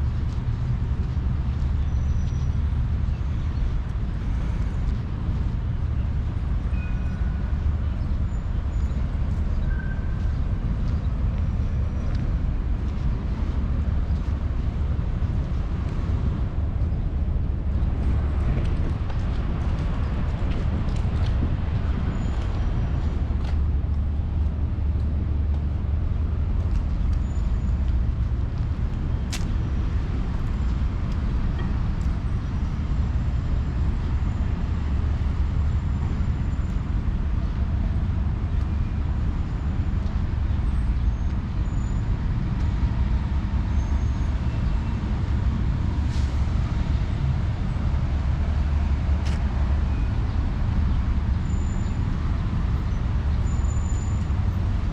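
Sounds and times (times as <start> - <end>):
low rumble of passing cars: 0.0 - 54.9.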